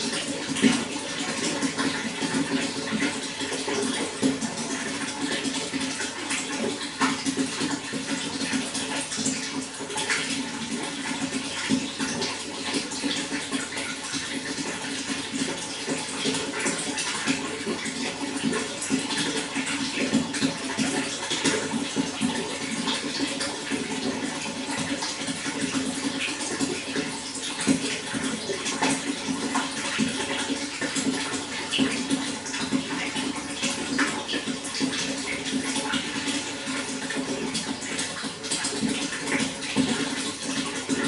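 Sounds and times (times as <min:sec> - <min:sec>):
running water splashing and gurgling: 0:00.0 - 0:41.0.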